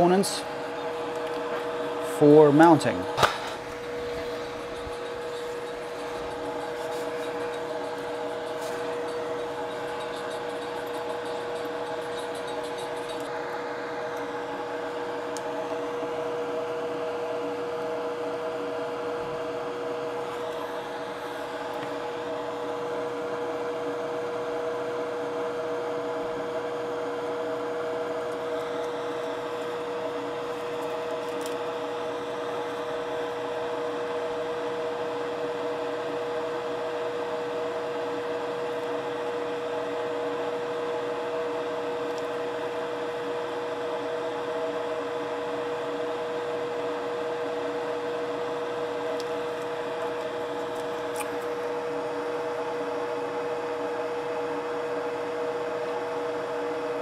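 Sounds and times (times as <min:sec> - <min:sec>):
constant hum tone: 0:00.0 - 0:57.0
extractor fan whirring: 0:00.0 - 0:57.0.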